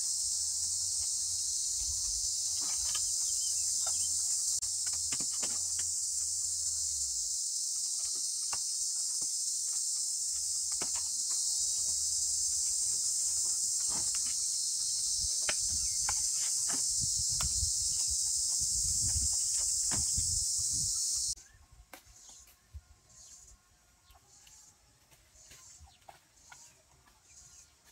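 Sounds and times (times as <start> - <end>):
high-pitched insect chorus: 0.0 - 21.5, 22.1 - 24.8.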